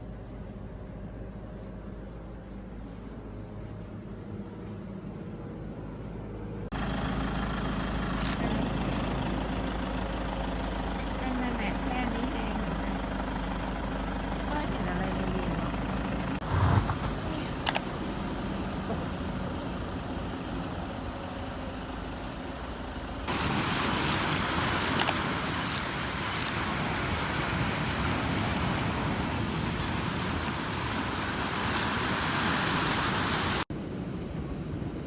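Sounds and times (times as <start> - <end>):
vehicle rumble and hiss: 0.0 - 35.0.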